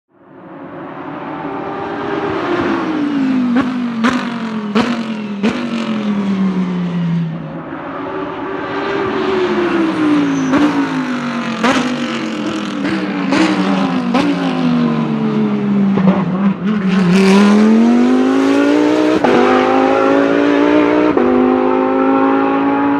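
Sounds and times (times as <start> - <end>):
race car engine: 0.1 - 22.9.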